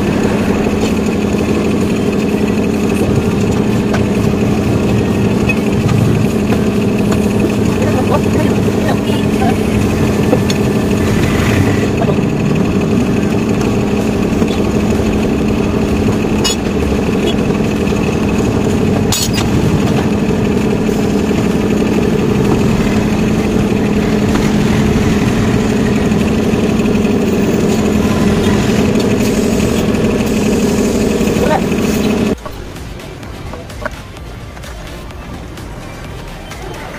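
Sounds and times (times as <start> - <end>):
air compressor humming: 0.0 - 36.2.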